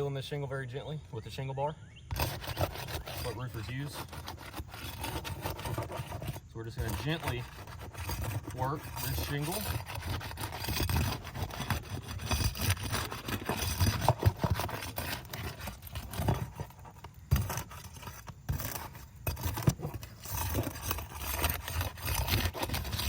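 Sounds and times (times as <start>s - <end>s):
shingle bar scraping shingle: 2.1s - 23.0s.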